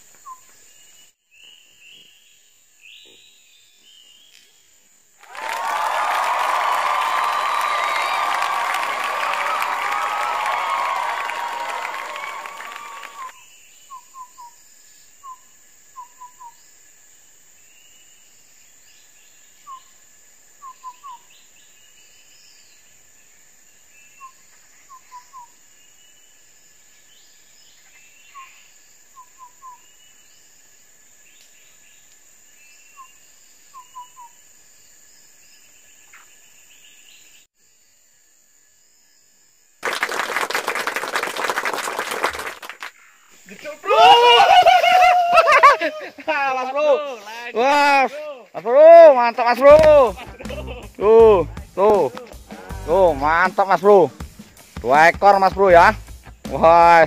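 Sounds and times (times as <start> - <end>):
faint bird and insect chirping: 0.0 - 57.0.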